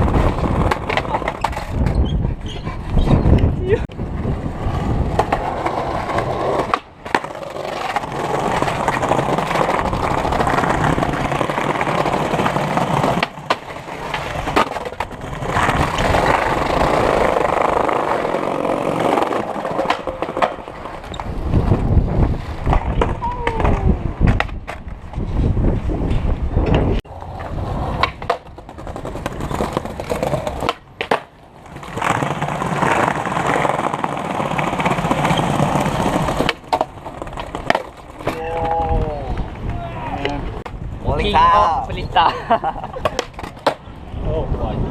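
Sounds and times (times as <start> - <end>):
skateboard clacking on ground: 0.0 - 4.0, 4.8 - 25.2, 26.0 - 40.8, 42.9 - 44.0
skateboard wheels rolling on pavement: 0.0 - 44.9.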